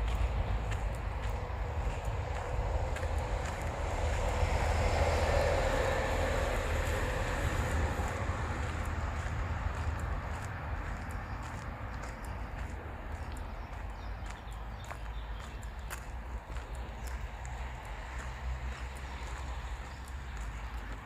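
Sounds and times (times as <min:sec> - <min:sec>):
distant vehicle passing: 0:00.0 - 0:21.0.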